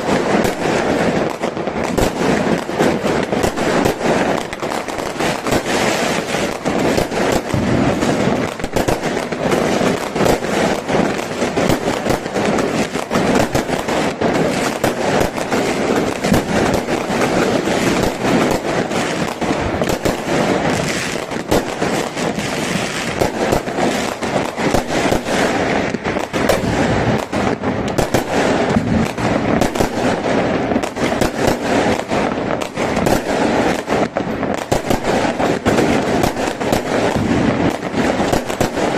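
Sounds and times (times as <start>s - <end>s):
fireworks barrage: 0.0s - 38.9s.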